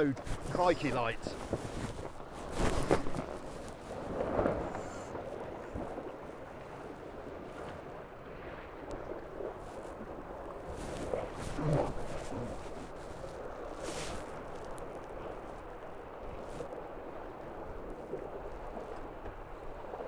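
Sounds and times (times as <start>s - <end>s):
wind on microphone: 0.0s - 7.6s, 8.4s - 20.0s
water rushing along hulls: 0.0s - 20.0s.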